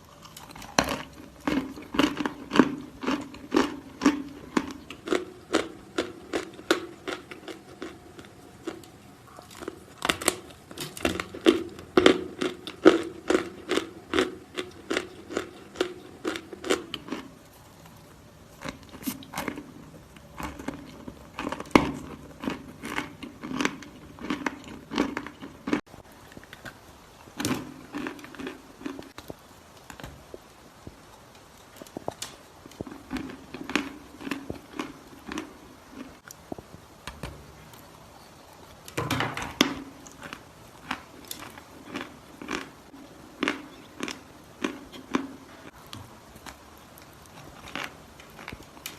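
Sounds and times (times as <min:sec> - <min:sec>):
chalk crunching while chewed: 0:00.0 - 0:18.0, 0:18.6 - 0:26.8, 0:27.4 - 0:29.3, 0:31.8 - 0:36.6, 0:39.8 - 0:45.8, 0:46.4 - 0:48.9.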